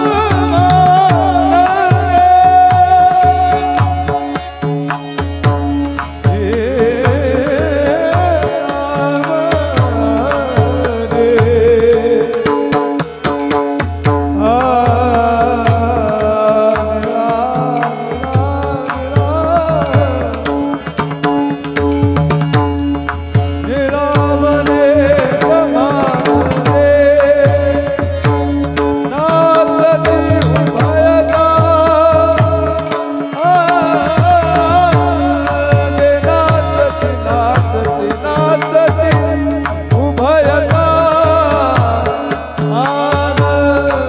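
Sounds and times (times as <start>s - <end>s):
barrel drum rhythm: 0.0s - 44.0s
wavering melody with vibrato: 0.0s - 44.0s.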